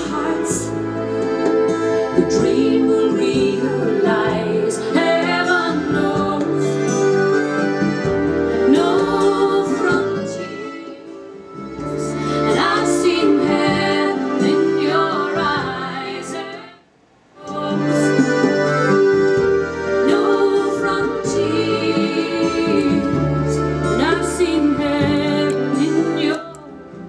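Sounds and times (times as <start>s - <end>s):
woman singing: 0.0s - 0.8s, 2.1s - 7.1s, 8.6s - 11.3s, 11.9s - 16.8s, 17.4s - 18.8s, 20.0s - 27.0s.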